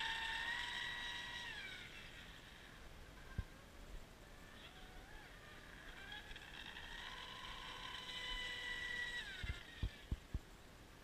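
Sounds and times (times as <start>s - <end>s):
high-pitched electric motor whine: 0.0s - 10.4s.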